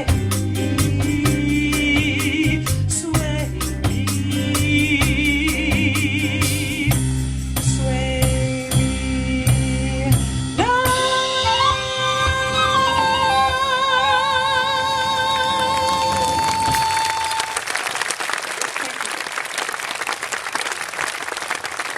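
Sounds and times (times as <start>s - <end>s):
big band playing swing: 0.0s - 21.9s.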